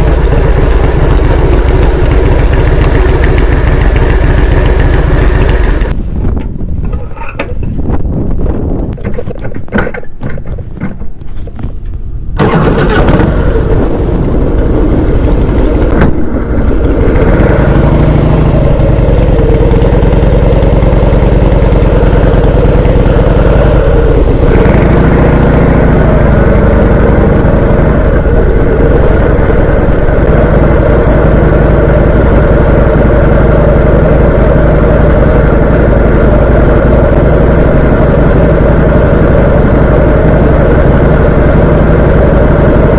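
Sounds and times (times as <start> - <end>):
vehicle engine running: 0.0 - 9.0, 12.3 - 42.9.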